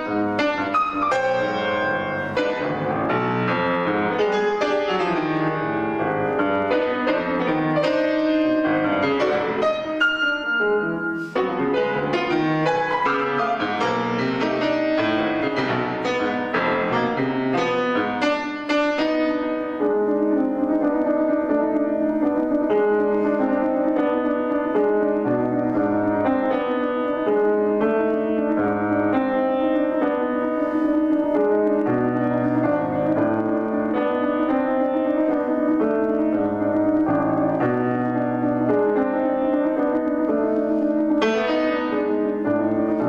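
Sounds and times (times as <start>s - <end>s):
solo grand piano: 0.0s - 43.0s.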